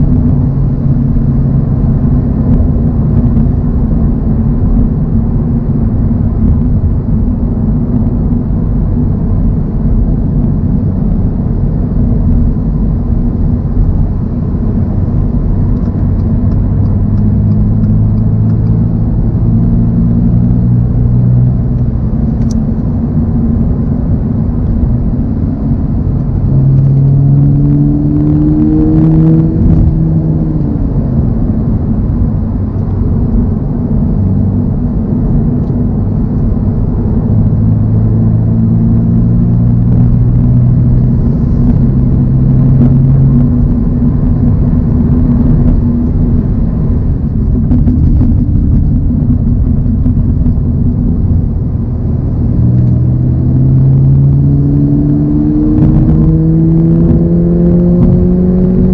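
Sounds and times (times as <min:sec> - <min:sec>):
car engine revving: 0:00.0 - 0:58.9
road rumble: 0:00.0 - 0:58.9.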